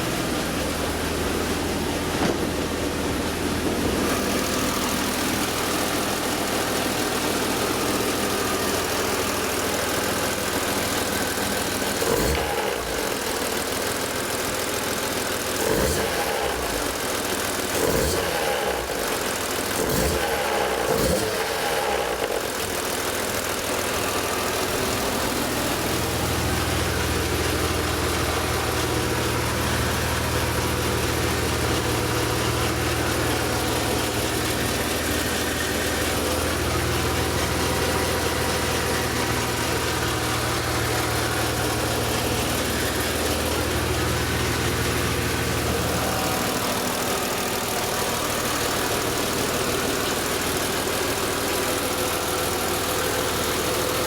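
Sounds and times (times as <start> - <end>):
car engine idling: 0.0 - 54.0
strange engine noise: 0.0 - 54.0.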